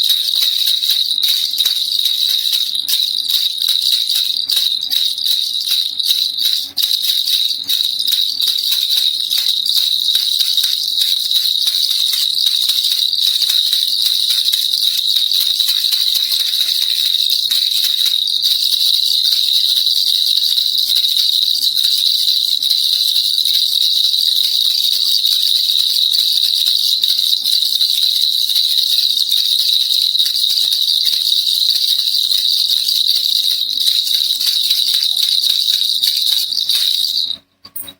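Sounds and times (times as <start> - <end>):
baby rattle shaking: 0.0 - 37.9.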